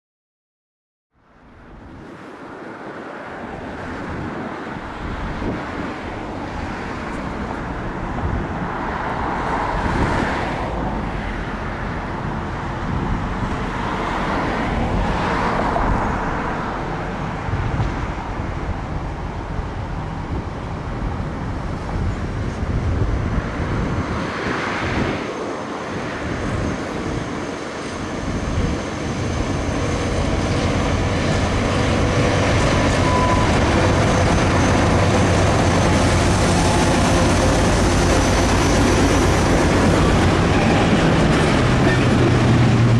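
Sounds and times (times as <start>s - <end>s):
diesel locomotive engine drone: 1.3s - 42.9s.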